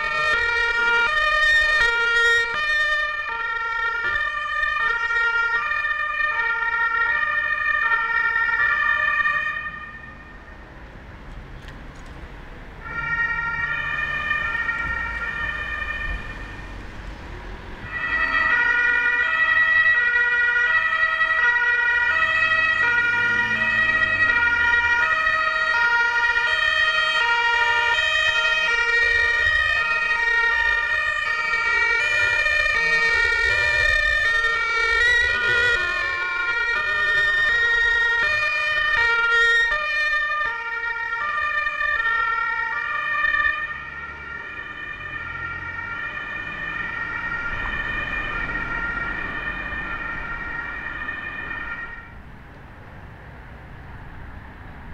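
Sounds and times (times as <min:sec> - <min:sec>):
two-tone ambulance sirens: 0:00.0 - 0:54.9.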